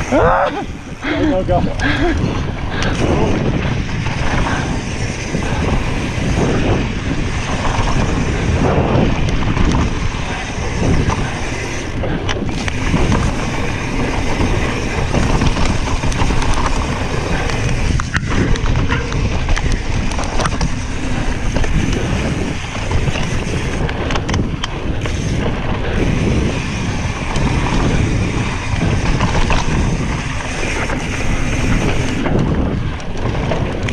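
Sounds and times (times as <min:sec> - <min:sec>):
bike clicks and rattles: 0:00.0 - 0:33.9
bike tyres rumbling over dirt: 0:00.0 - 0:33.9
wind buffeting microphone: 0:00.0 - 0:33.9.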